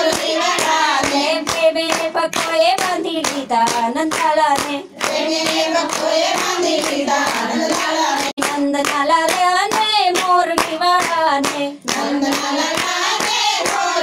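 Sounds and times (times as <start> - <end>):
rhythmic hand clapping: 0.0 - 14.0
women singing together: 0.0 - 14.0.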